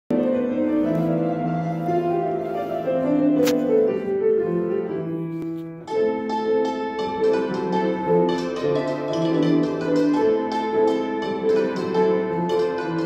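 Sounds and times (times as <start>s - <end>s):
piano chords: 0.1s - 13.0s
struck zither notes: 0.1s - 13.0s.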